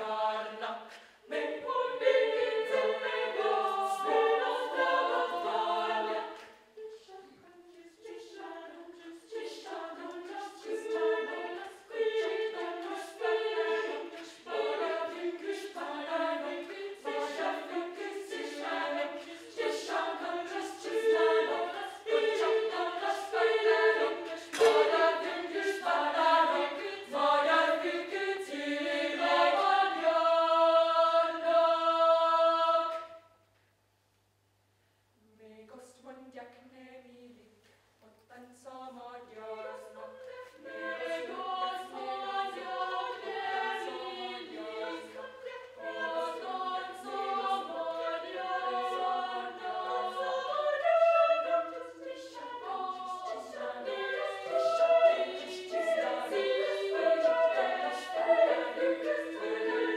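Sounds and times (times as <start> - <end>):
children's choir singing: 0.0 - 33.4, 38.3 - 59.9.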